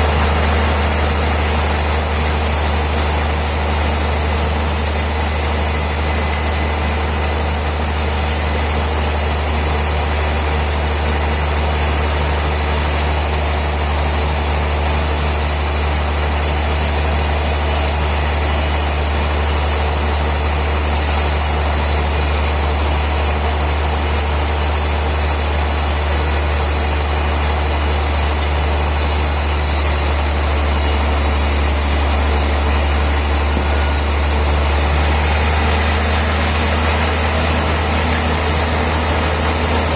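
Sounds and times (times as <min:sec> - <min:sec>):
bandsaw machinery running: 0:00.0 - 0:39.9.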